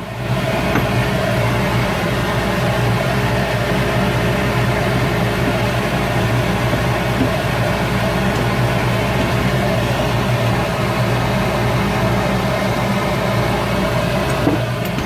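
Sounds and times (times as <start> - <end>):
wood lathe motor hum: 0.0 - 15.0.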